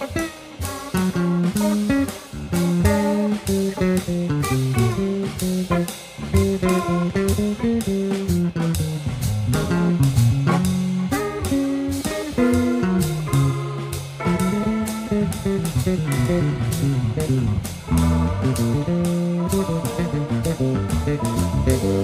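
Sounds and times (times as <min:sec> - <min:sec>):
drum kit: 0:00.0 - 0:22.0
electric bass playing: 0:00.0 - 0:22.0.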